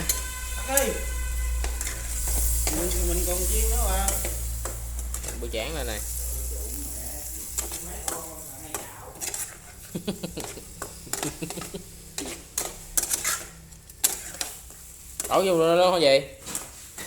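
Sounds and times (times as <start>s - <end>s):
light sizzle: 0.0s - 17.0s
utensils scraping frying pan: 0.0s - 17.0s.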